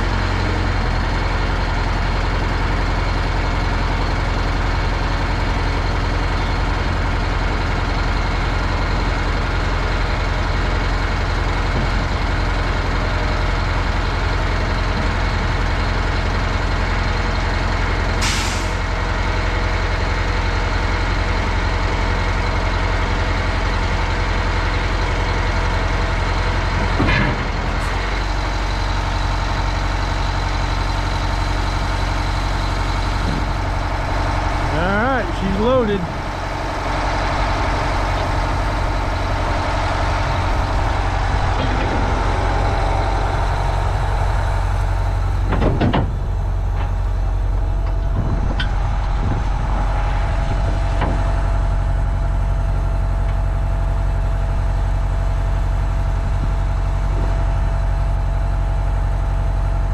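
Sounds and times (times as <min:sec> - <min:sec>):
diesel truck engine under load: 0:00.0 - 0:59.9.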